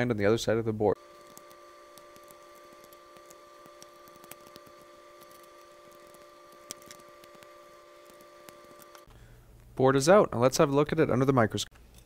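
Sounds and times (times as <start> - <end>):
faint hum: 0.1 - 10.8.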